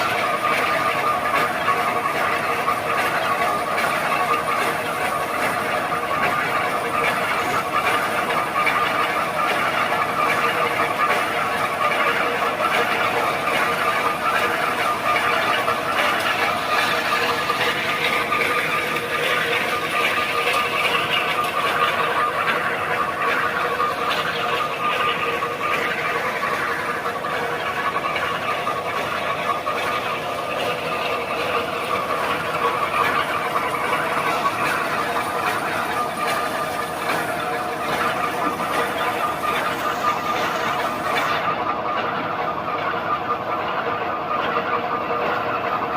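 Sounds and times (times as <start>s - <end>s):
steady whine: 0.0s - 43.6s
diesel truck engine clatter: 0.0s - 45.9s.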